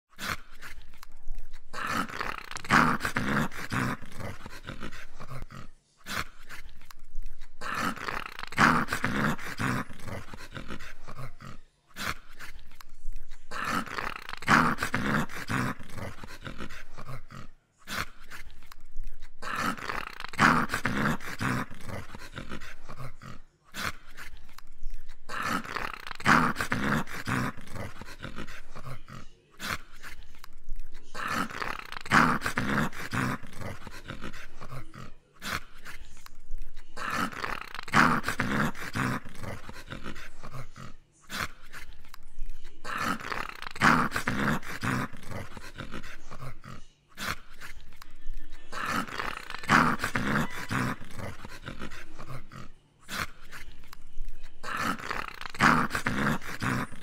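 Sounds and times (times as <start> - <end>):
dog growling in play: 0.1 - 57.0.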